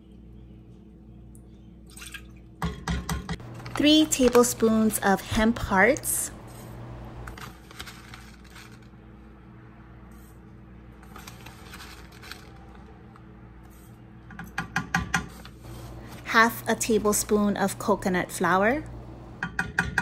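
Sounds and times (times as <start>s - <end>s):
low steady hum: 0.0s - 14.5s, 15.4s - 20.0s.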